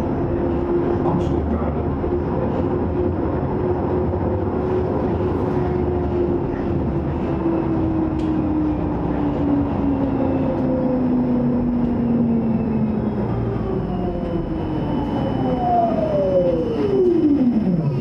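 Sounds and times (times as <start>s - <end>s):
tram motor whine: 0.0s - 18.0s
tram wheels rumbling on rails: 0.0s - 18.0s.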